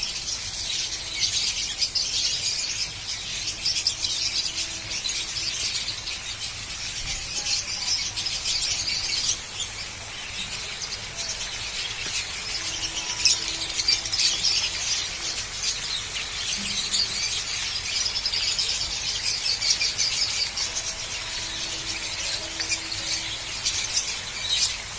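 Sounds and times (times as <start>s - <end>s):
chorus of small birds chirping: 0.0s - 24.9s.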